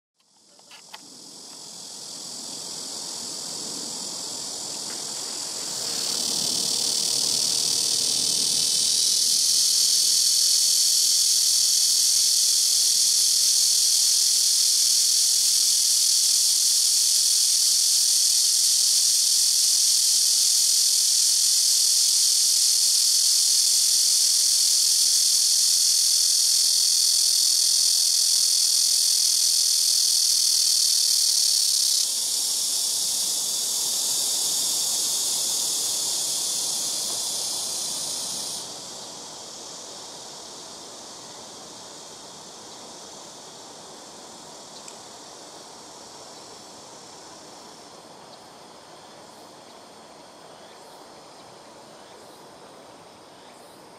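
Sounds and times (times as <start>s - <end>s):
cicada buzzing drone: 0.2s - 53.9s.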